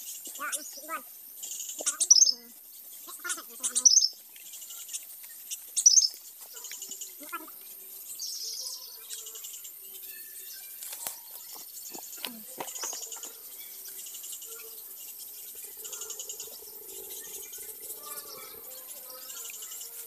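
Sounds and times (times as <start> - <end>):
high buzz of insects: 0.0 - 20.0
sharp bird chirps: 0.0 - 20.0.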